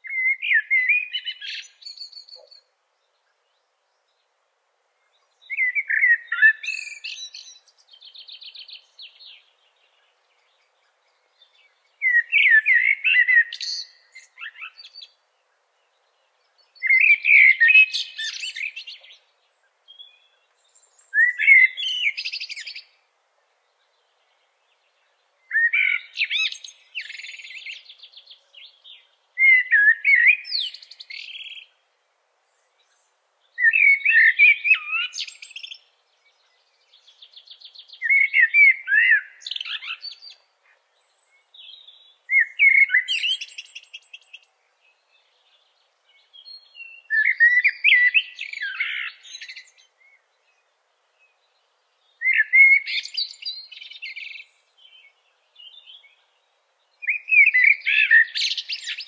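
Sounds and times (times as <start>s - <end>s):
songbird singing trilled phrases: 0.0s - 4.2s, 5.0s - 23.0s, 23.6s - 31.8s, 32.5s - 59.0s.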